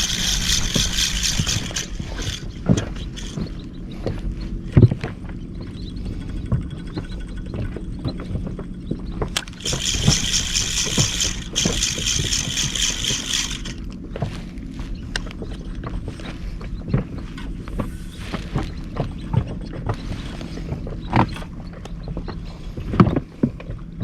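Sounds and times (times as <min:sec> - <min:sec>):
wind and water against hull: 0:00.0 - 0:13.0, 0:13.6 - 0:24.0.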